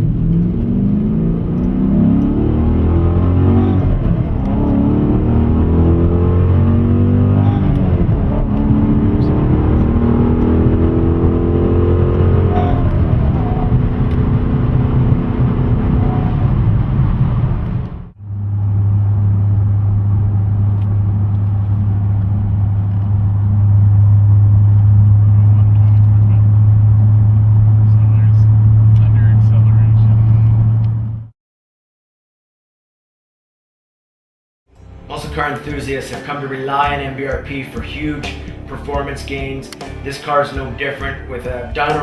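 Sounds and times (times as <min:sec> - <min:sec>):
car engine revving: 0:00.0 - 0:31.3, 0:34.8 - 0:42.0.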